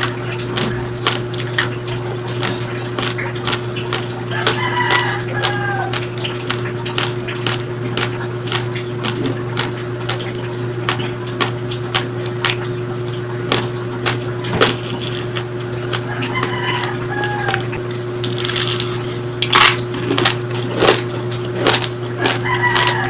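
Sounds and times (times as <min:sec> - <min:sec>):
chewing crunchy rice: 0:00.0 - 0:23.0.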